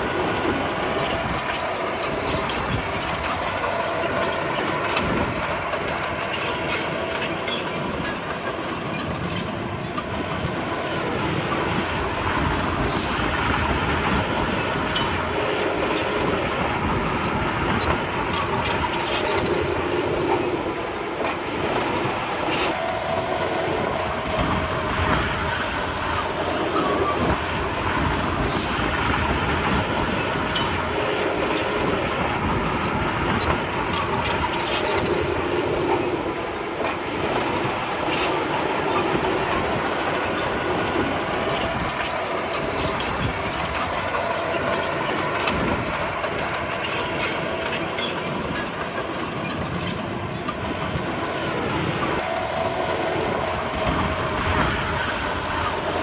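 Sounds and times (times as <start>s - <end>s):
bulldozer engine drone: 0.0s - 56.0s
steel tracks clanking and squealing: 0.0s - 56.0s.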